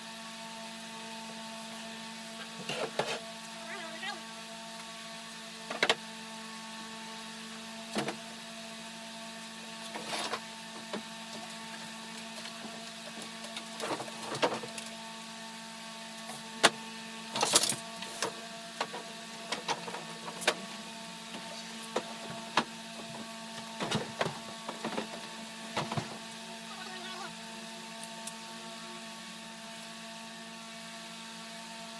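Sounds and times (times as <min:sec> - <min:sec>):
electrical hum: 0:00.0 - 0:08.6, 0:09.4 - 0:31.9.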